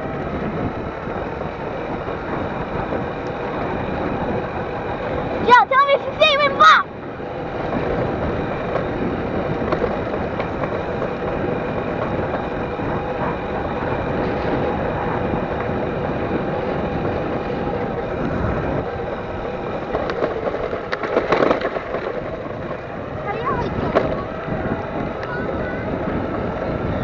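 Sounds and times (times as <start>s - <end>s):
wind and tyre noise: 0.0s - 27.0s.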